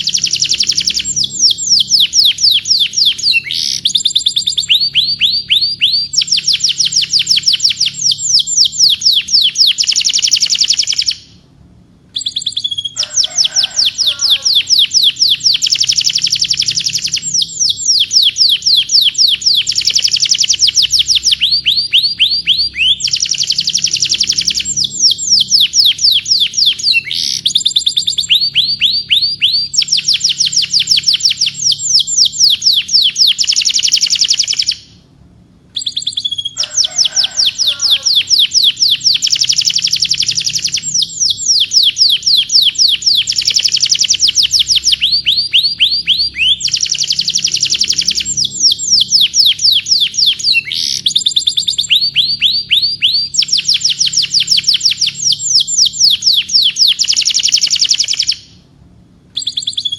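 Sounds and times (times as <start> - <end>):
canary singing trills: 0.0 - 11.5, 12.1 - 35.0, 35.7 - 58.6, 59.4 - 59.9.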